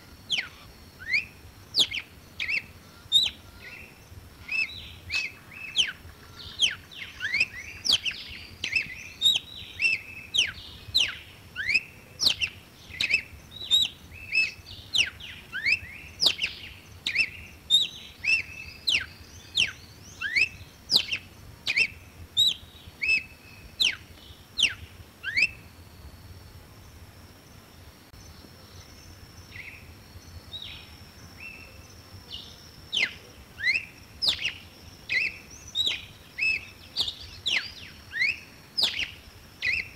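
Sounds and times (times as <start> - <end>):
bird singing whistled notes: 0.0 - 26.3, 28.2 - 39.9.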